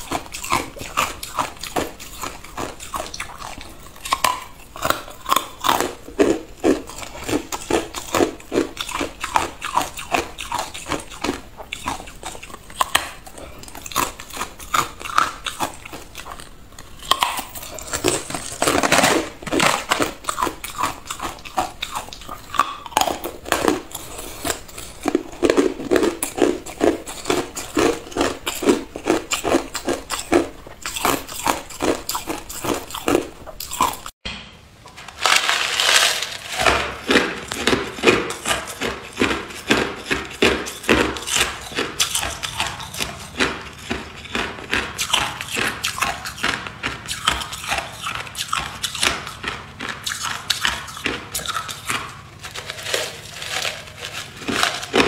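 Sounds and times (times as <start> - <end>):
ice being chewed: 0.0 - 34.2, 35.3 - 55.0.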